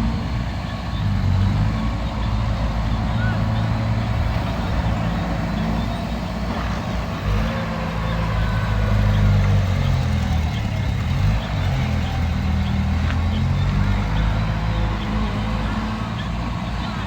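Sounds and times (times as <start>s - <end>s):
heavy diesel engine under load: 0.0s - 17.0s.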